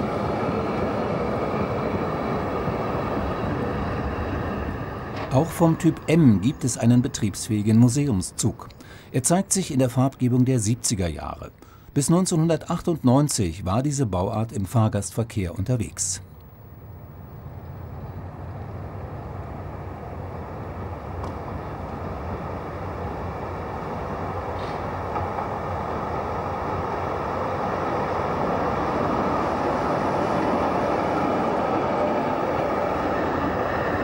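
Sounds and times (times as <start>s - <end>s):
tram wheels rolling on rails: 0.0s - 11.5s, 15.5s - 34.0s.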